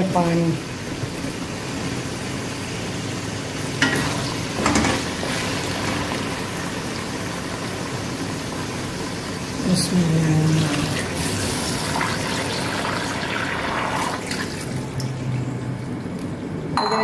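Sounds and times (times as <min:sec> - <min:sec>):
chicken sizzling in oil: 0:00.0 - 0:15.1.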